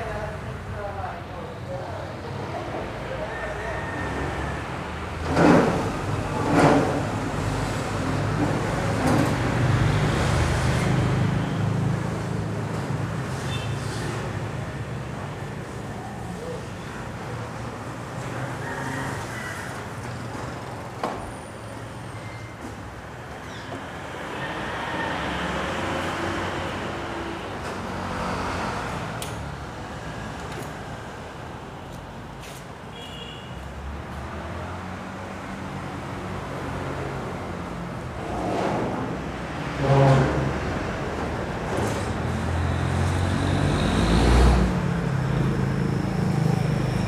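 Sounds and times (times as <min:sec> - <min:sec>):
street noise: 0:00.0 - 0:47.0
traffic noise: 0:00.0 - 0:47.0.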